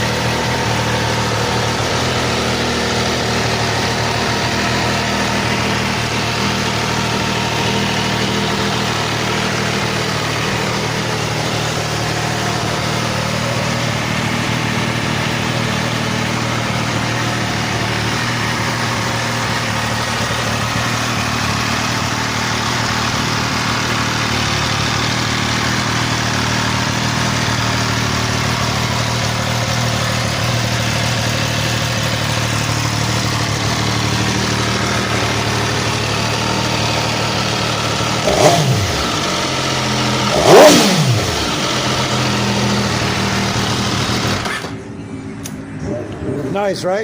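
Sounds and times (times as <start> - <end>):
engine revving: 0.0 - 46.6
motorcycle engine idling: 0.0 - 47.0.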